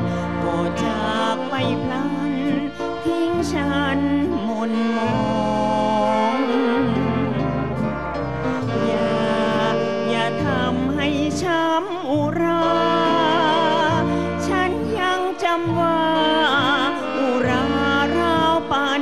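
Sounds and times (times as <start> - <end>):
dance band with brass: 0.0 - 3.3, 6.0 - 11.5, 12.4 - 18.9
woman singing with vibrato: 0.0 - 19.0.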